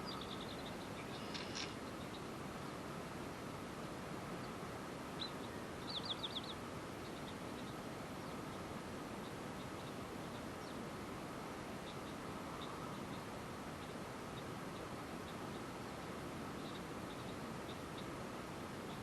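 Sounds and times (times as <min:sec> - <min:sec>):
small birds chirping: 0:00.0 - 0:02.8, 0:03.8 - 0:19.0
steady background hiss: 0:00.0 - 0:19.0.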